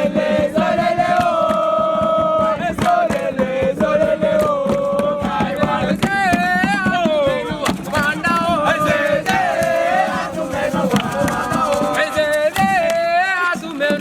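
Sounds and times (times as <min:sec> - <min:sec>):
fast percussive beat: 0:00.0 - 0:14.0
young voices singing and chanting: 0:00.0 - 0:14.0.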